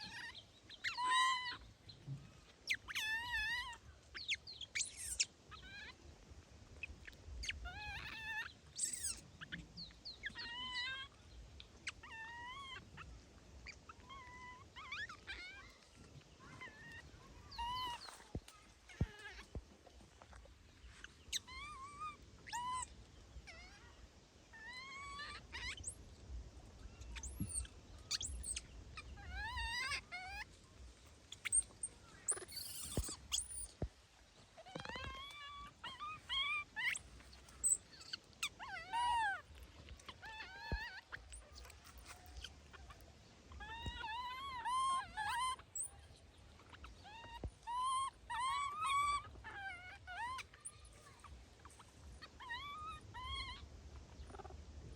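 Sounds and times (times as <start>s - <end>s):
baby monkeys crying: 0.0s - 1.7s, 2.4s - 6.0s, 6.8s - 9.6s, 10.2s - 26.0s, 27.0s - 33.8s, 34.6s - 54.5s.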